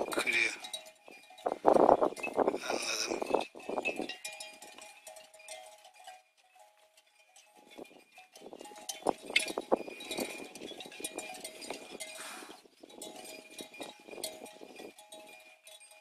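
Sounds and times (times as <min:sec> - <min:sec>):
cowbells clanking: 0:00.0 - 0:16.0.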